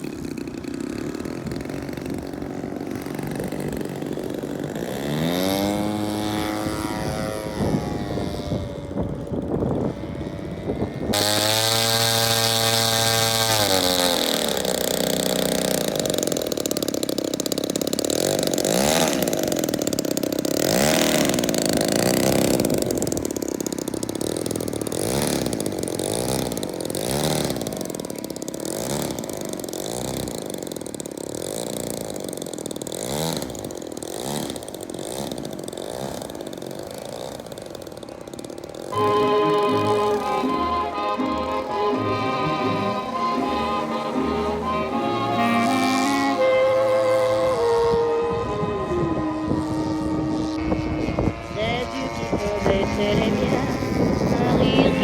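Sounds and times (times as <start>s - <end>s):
model airplane engines: 0.0s - 55.0s.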